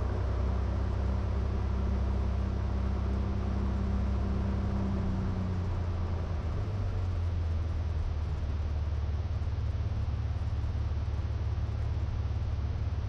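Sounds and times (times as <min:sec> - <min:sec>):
propeller aircraft engine droning: 0:00.0 - 0:13.0.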